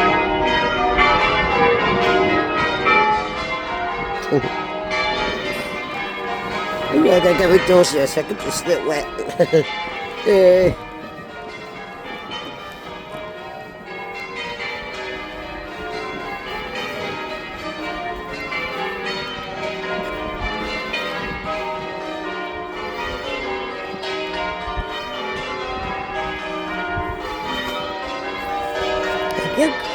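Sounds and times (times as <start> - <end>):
church bells ringing: 0.0 - 29.9.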